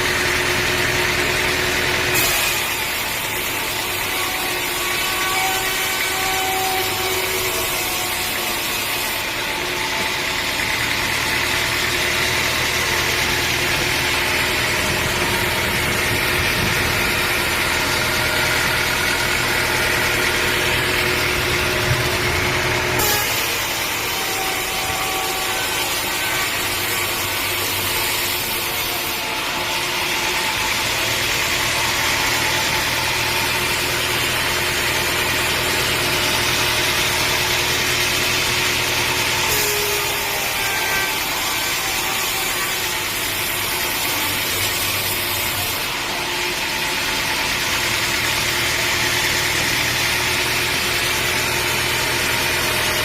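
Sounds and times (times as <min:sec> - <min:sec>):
engine hum: 0:00.0 - 0:53.0
saw blade cutting wood: 0:00.0 - 0:53.0.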